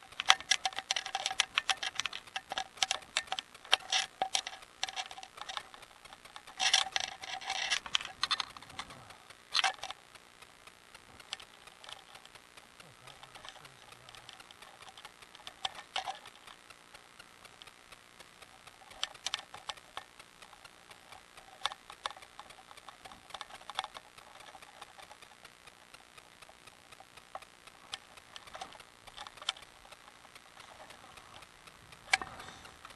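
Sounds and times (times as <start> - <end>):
bicycle ticking and rattling: 0.0 - 32.9.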